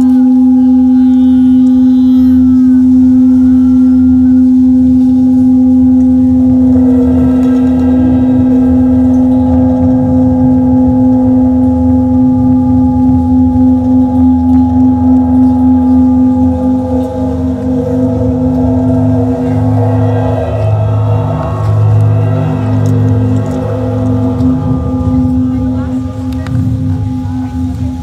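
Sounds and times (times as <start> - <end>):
microphone feedback drone: 0.0 - 28.0.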